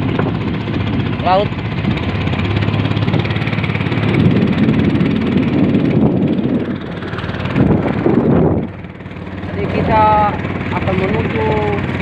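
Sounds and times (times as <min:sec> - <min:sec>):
small boat engine pulsing: 0:00.0 - 0:12.0.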